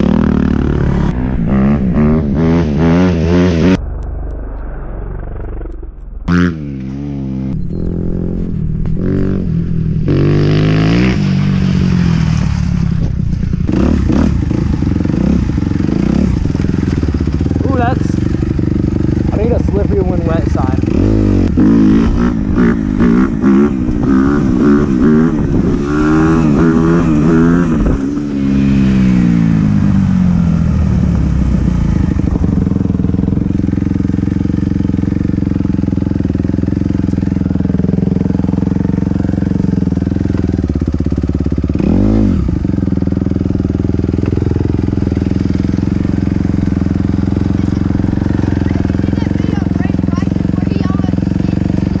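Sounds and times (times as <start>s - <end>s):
dirt bike engine revving: 0.0s - 12.6s, 13.6s - 30.6s, 31.2s - 52.0s.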